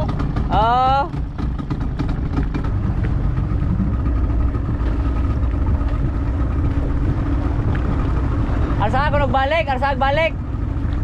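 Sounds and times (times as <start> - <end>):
wind noise: 0.0 - 10.4
speedboat engine droning: 0.0 - 11.0
water noise: 0.0 - 11.0.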